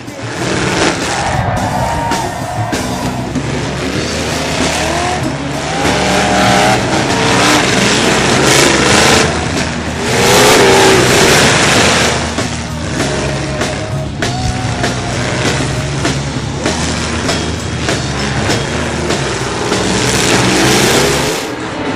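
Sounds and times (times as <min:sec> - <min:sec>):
background music: 0:00.0 - 0:21.9
car engines revving: 0:00.0 - 0:21.9
tires squealing: 0:00.0 - 0:21.9.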